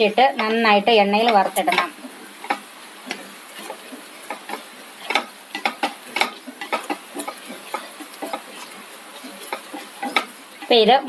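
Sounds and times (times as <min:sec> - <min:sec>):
food sizzling in oil: 0:00.0 - 0:11.0
spatula scraping pan: 0:00.0 - 0:11.0.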